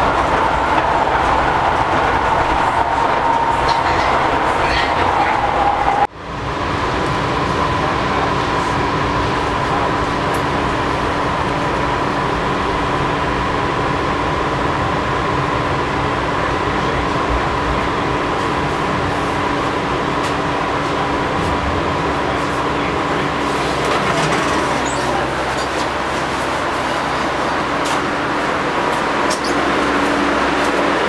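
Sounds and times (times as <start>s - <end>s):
constant train hum: 0.0s - 31.0s
train wheels rumbling on track: 0.0s - 31.0s.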